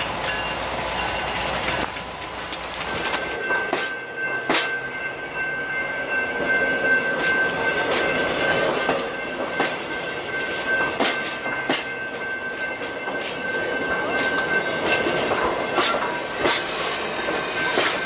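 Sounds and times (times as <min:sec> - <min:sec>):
wheels clicking over rail joints: 0:00.0 - 0:04.8, 0:06.4 - 0:18.0
train rumble: 0:00.0 - 0:18.0.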